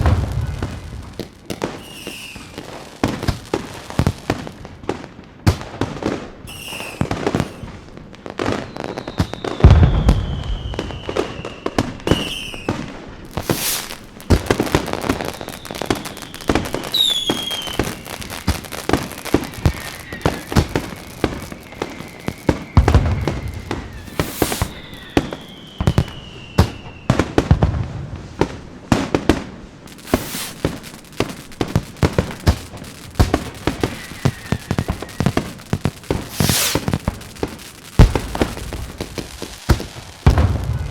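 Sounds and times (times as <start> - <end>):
fireworks whistles gliding down: 0.0 - 5.0, 5.9 - 40.9
fireworks crackling pops: 0.0 - 40.9
fireworks deep booms: 0.0 - 40.9.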